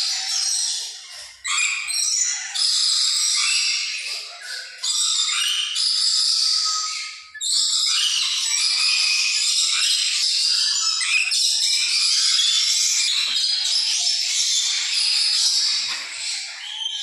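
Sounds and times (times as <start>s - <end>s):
parrots screeching and chattering: 0.0s - 17.0s.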